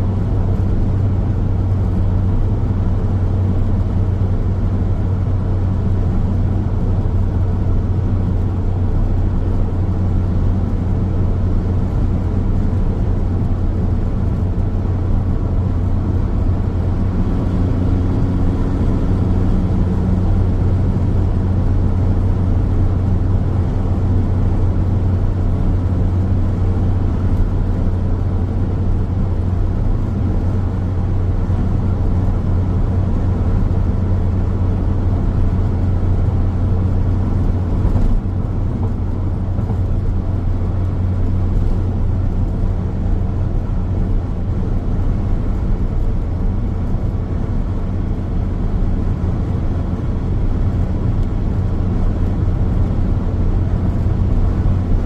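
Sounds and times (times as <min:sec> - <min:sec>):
car engine hum: 0:00.0 - 0:55.0
road and tyre drone: 0:00.0 - 0:55.0.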